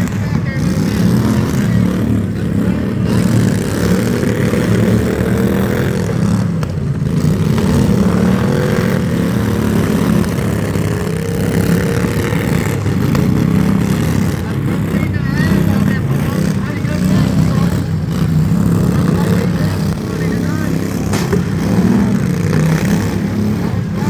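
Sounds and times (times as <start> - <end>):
loud engine running: 0.0 - 24.0.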